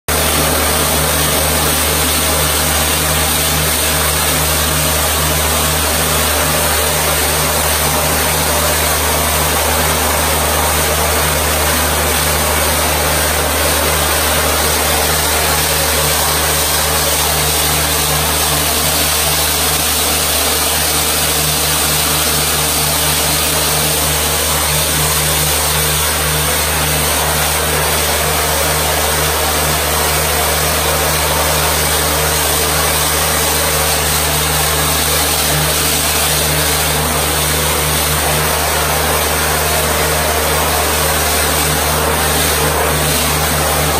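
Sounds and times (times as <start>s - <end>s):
pressure washer motor hum: 0.1s - 43.9s.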